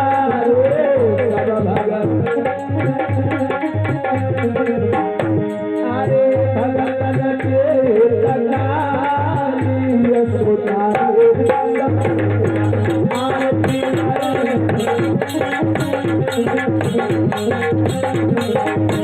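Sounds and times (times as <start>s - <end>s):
tabla playing a steady rhythm: 0.0s - 19.0s.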